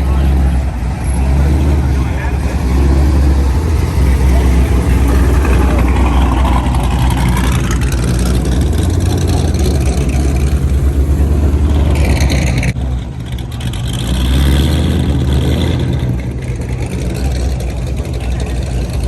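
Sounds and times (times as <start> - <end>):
car engine exhaust rumble: 0.0 - 19.0.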